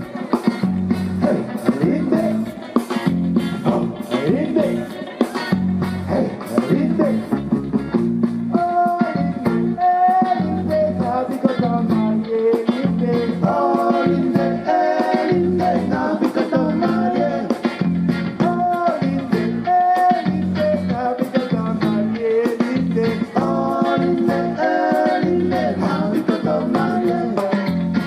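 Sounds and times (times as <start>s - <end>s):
song with guitar and bass: 0.0s - 28.0s.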